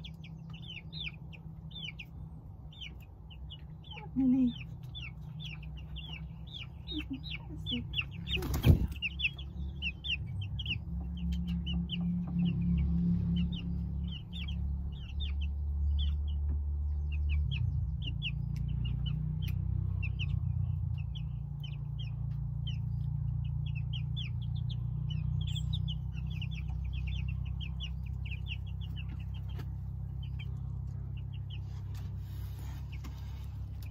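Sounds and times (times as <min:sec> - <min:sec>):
chicks peeping: 0:00.0 - 0:33.9
steady low rumble: 0:00.0 - 0:33.9.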